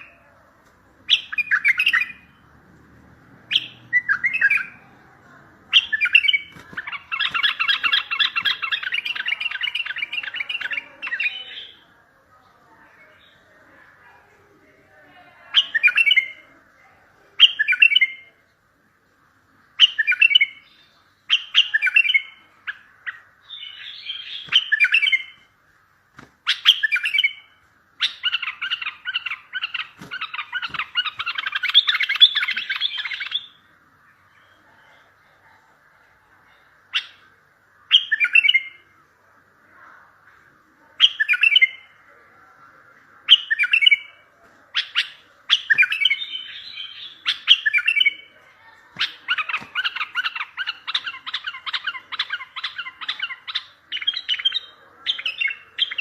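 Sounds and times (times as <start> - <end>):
bird singing warbled phrases: 0.0 - 18.7, 19.4 - 56.0.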